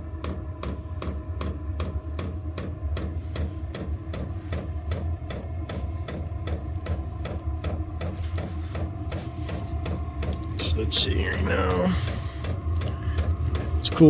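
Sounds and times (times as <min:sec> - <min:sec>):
blower fan hum: 0:00.0 - 0:14.0.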